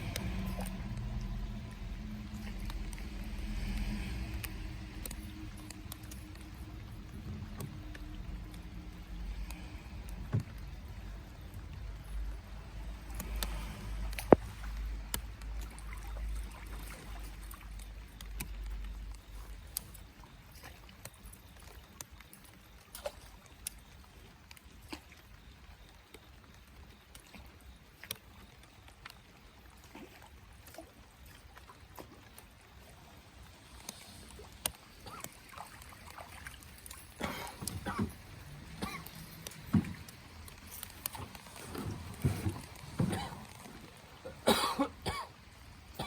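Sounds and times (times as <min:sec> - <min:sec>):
faint water lapping: 0:00.0 - 0:46.0.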